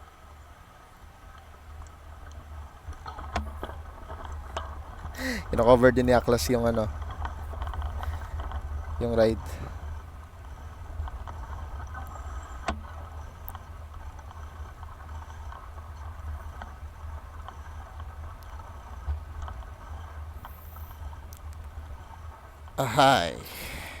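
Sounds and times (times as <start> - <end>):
wind buffeting microphone: 1.2 - 24.0.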